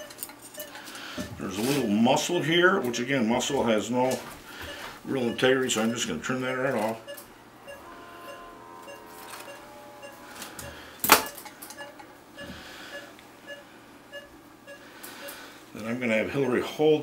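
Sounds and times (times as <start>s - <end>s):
patient monitor beeping: 0.0s - 2.0s, 4.1s - 17.0s
cautery unit activation tone: 0.0s - 17.0s.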